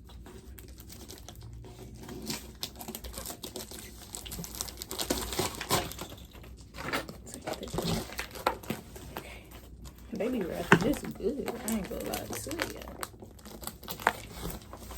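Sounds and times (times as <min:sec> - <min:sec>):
plastic wrapping crinkling: 0:00.0 - 0:14.9.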